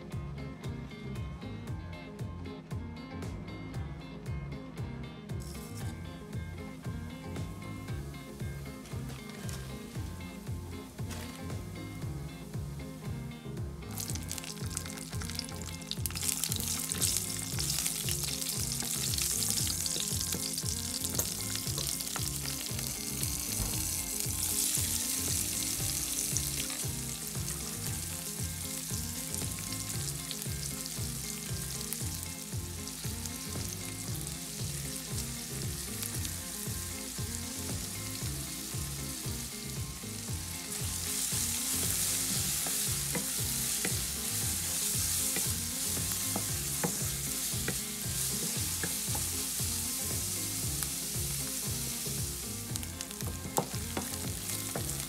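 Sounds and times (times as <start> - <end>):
hot oil sizzling in a pan: 5.4 - 55.0.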